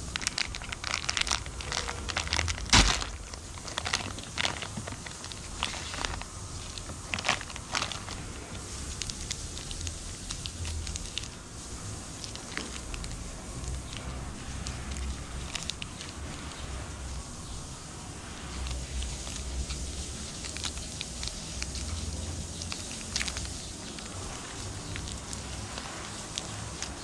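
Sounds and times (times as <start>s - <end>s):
plastic wrapper crinkling: 0.0s - 17.6s, 18.3s - 27.0s.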